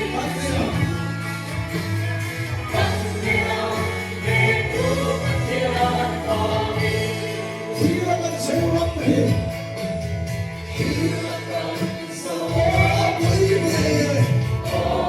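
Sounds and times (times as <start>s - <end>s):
voices singing: 0.0s - 1.8s, 2.6s - 9.4s, 10.7s - 15.0s
bass line: 0.0s - 15.0s.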